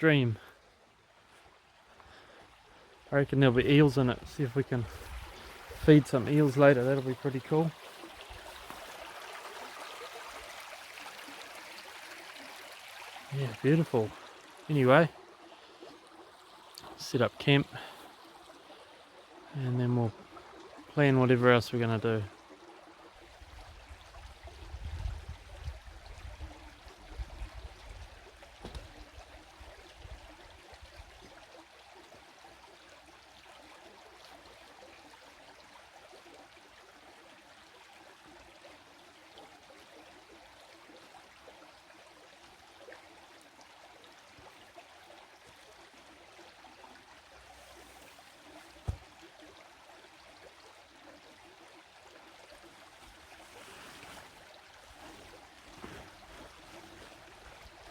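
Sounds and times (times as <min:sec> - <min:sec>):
stream water trickling: 0:00.0 - 0:57.9.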